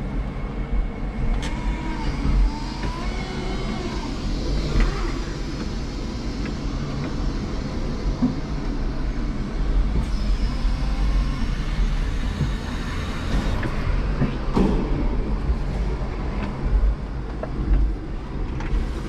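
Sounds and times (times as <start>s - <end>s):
forklift low rumble: 0.0s - 19.0s
high motor whine: 0.0s - 19.0s.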